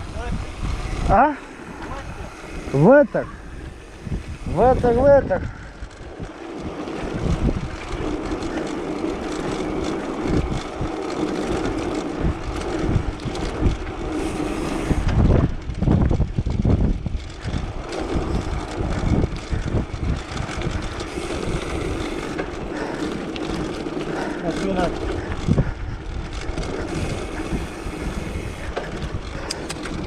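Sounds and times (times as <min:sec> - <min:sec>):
rolling road noise: 0:00.0 - 0:30.0
wind buffeting microphone: 0:00.0 - 0:30.0.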